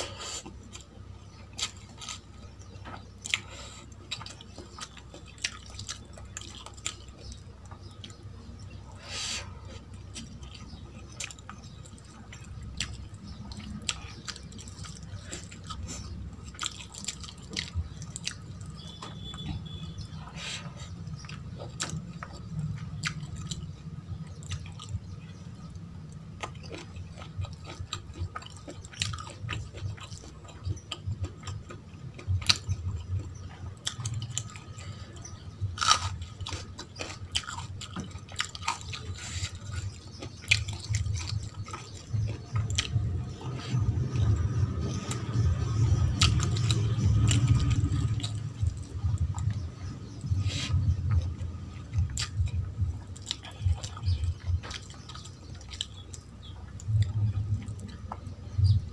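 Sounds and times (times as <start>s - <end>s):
close chewing with mouth clicks: 0.0s - 58.9s.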